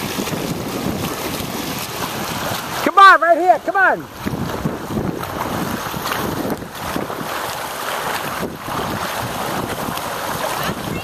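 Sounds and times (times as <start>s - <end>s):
wind on microphone: 0.0s - 2.9s, 3.8s - 11.0s
water sloshing: 0.0s - 11.0s.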